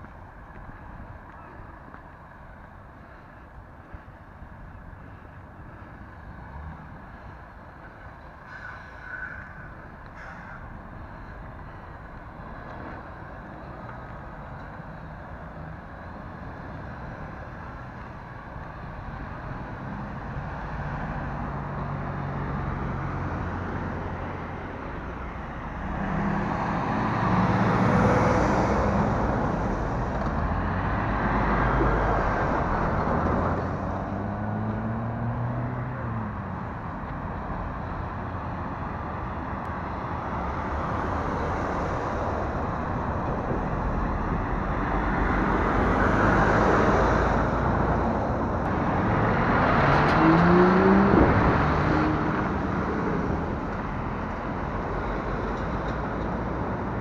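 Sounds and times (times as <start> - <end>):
lorries and cars passing: 0.0 - 57.0.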